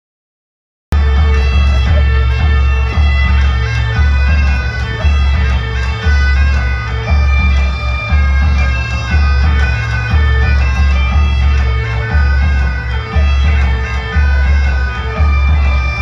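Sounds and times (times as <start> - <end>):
deep drum beats: 0.9 - 16.0
bagpipes playing a dance tune: 1.0 - 16.0.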